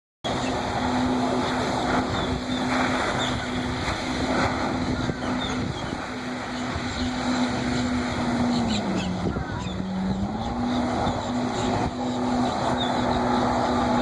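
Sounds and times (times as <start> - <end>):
jet ski engine running: 0.3 - 14.0
spraying water rushing: 0.3 - 14.0.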